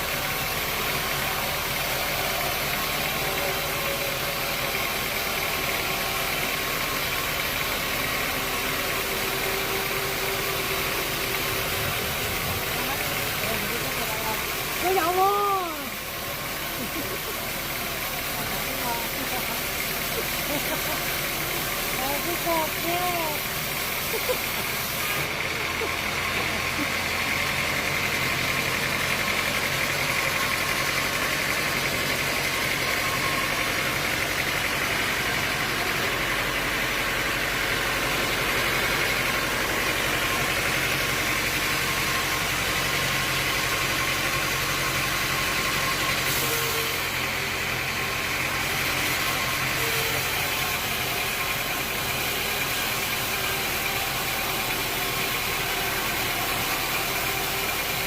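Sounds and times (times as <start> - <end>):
sawmill motor whining: 0.0 - 58.0.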